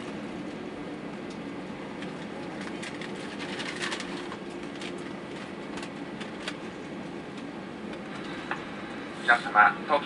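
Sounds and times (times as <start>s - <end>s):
airplane cabin hum: 0.0s - 10.0s.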